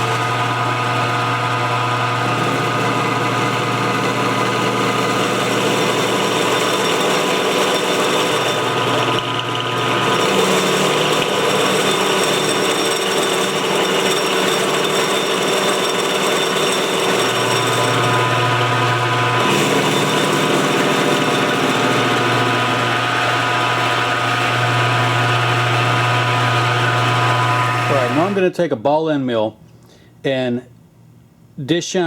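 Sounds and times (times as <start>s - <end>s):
milling machine cutting metal: 0.0s - 28.4s.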